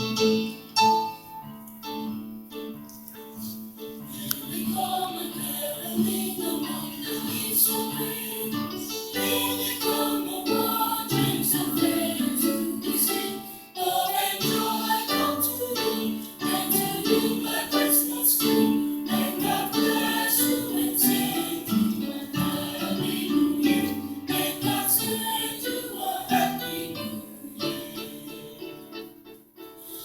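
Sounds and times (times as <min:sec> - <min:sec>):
instrumental accompaniment: 0:00.0 - 0:30.0
chorus singing: 0:04.0 - 0:30.0.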